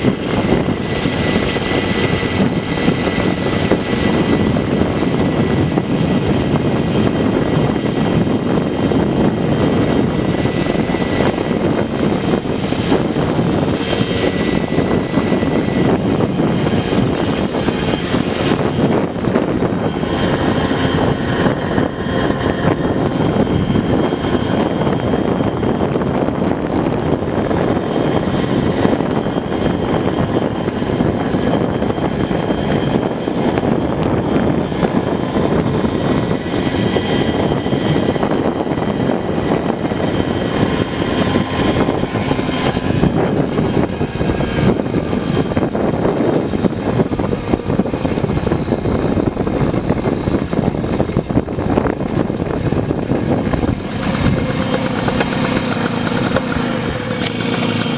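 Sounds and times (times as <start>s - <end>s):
moped engine running: 0.0s - 57.9s
wind on microphone: 0.0s - 57.9s.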